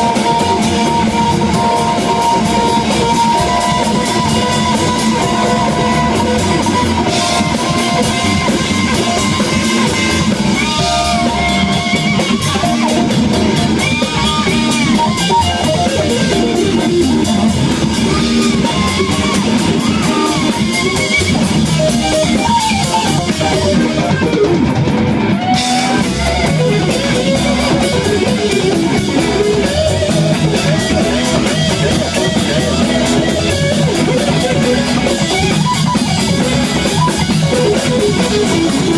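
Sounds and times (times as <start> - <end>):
drum kit: 0.0 - 38.9
electric guitar with bent notes: 0.0 - 38.9.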